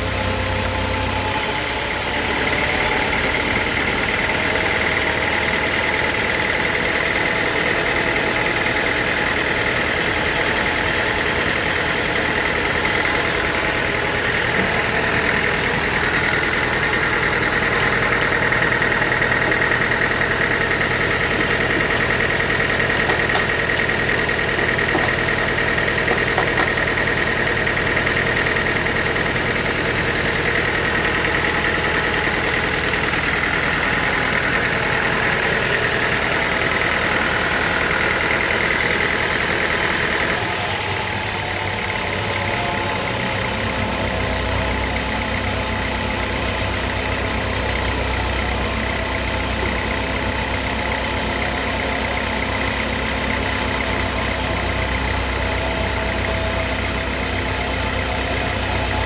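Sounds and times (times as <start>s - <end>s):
sawmill machinery whining: 0.0s - 59.0s.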